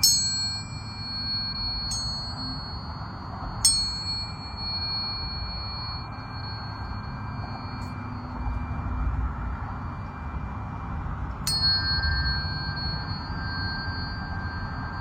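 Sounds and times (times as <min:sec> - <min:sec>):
tuning forks ringing: 0:00.0 - 0:15.0.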